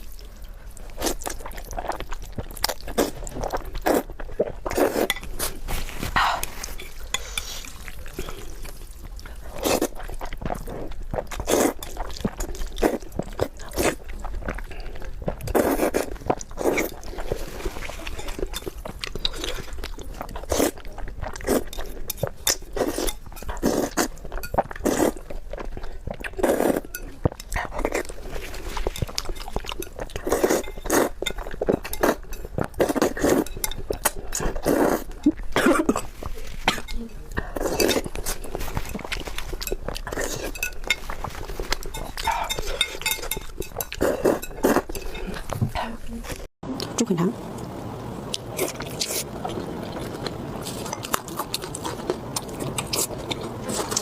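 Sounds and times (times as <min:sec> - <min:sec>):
crunching and wet chewing: 0:00.0 - 0:46.5, 0:48.3 - 0:54.0.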